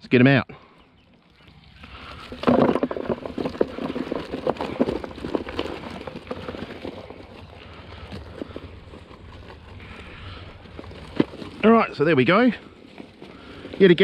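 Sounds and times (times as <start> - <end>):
net rustling and rattling: 1.2 - 14.0.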